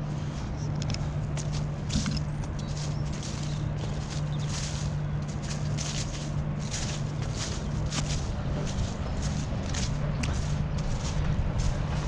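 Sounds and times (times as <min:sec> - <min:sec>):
low hum: 0:00.0 - 0:12.0
footsteps crunching on frozen grass: 0:00.2 - 0:12.0.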